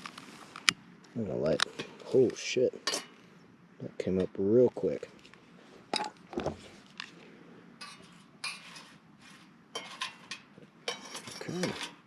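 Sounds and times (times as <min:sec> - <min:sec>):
twigs clinking on steel fire pit: 0:00.0 - 0:03.2, 0:04.1 - 0:07.2, 0:07.8 - 0:12.0.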